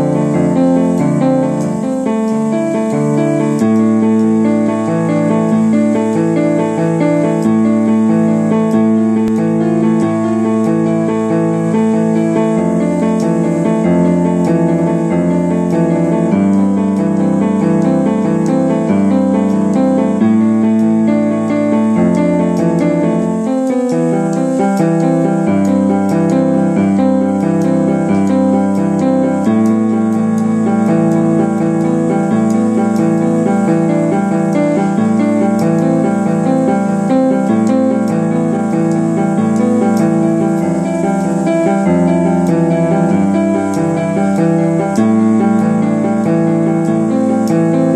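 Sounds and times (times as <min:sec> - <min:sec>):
keyboard sustained chords: 0:00.0 - 0:47.9.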